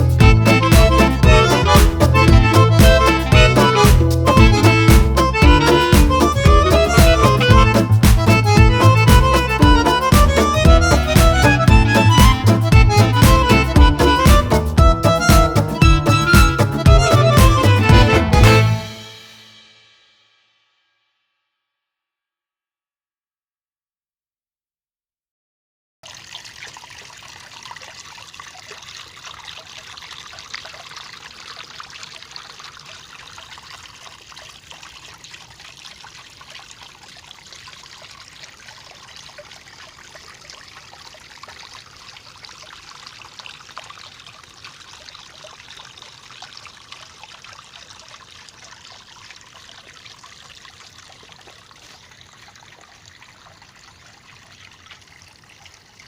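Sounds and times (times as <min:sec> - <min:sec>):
small waterfall trickling: 0:00.0 - 0:18.1, 0:26.0 - 0:56.0.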